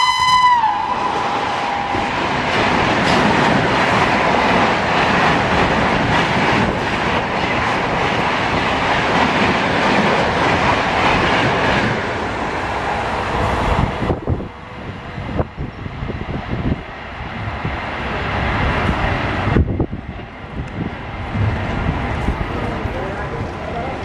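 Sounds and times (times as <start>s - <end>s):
train wheels rushing on rails: 0.0s - 24.0s
wind noise: 0.0s - 24.0s.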